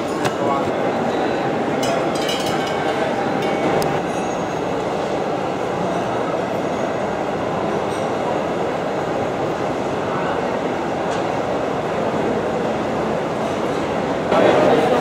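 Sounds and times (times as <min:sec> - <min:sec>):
murmur of voices: 0:00.0 - 0:15.0.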